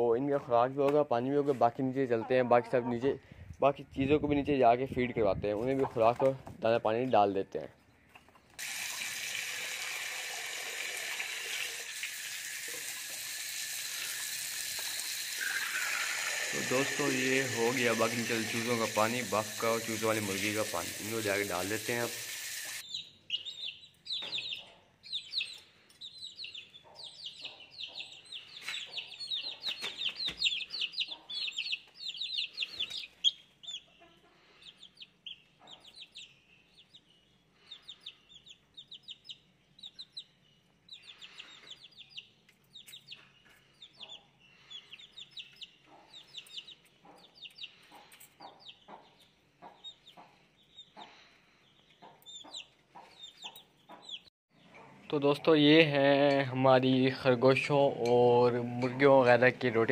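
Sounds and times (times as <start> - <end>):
chicks peeping: 1.2 - 8.6, 13.9 - 22.2, 22.8 - 59.9.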